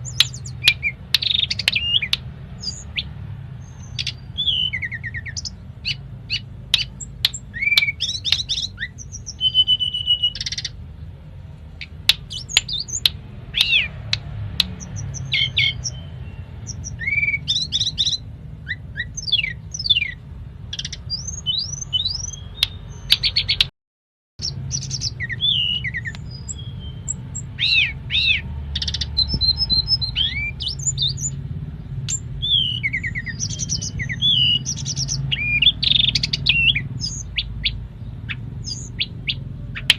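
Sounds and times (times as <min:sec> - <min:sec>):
songbird singing whistles and clicks: 0:00.0 - 0:10.8, 0:11.8 - 0:23.7, 0:24.4 - 0:31.4, 0:32.0 - 0:39.9.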